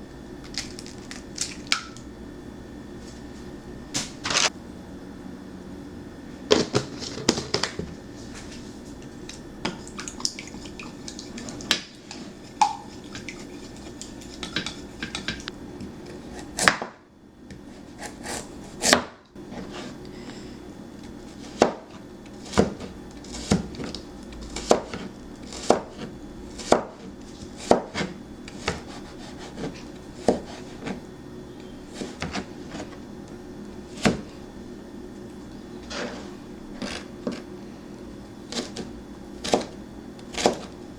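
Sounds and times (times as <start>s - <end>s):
constant low hum: 0.0s - 40.9s.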